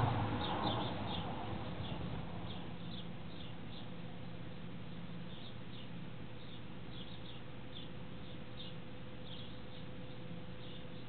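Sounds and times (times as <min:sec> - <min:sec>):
refrigerator fan hum: 0:00.0 - 0:11.0.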